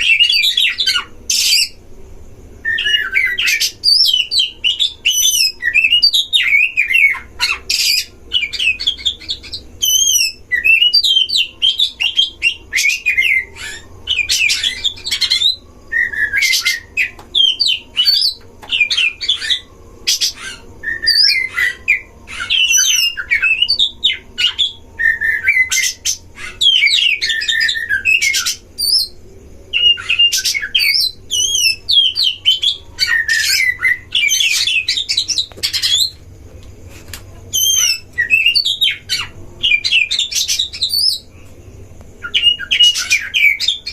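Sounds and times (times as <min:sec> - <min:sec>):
birds singing whistled trills: 0:00.0 - 0:36.4, 0:37.2 - 0:43.9.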